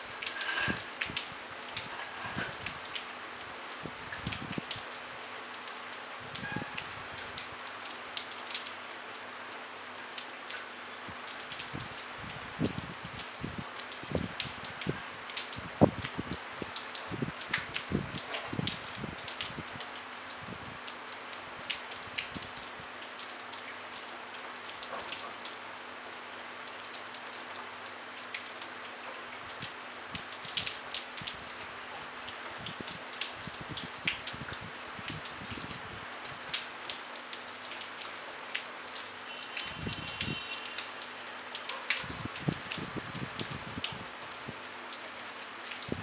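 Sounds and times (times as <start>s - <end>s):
light rain falling: 0.0s - 46.0s
raindrops ticking: 0.0s - 46.0s.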